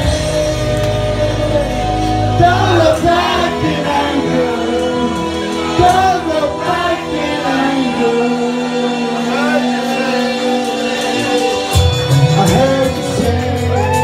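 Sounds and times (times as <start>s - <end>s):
instrumental accompaniment: 0.0s - 14.0s
man singing into a microphone: 0.0s - 14.0s.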